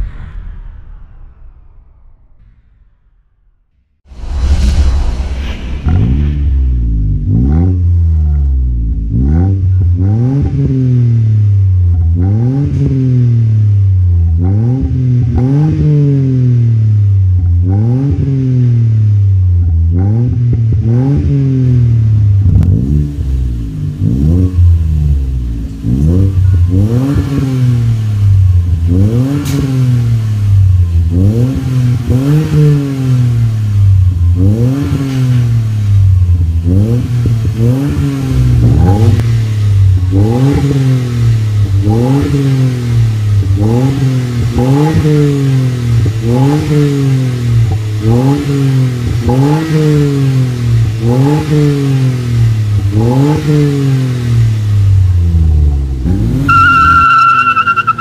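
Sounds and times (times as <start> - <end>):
car engine revving: 5.8 - 58.0.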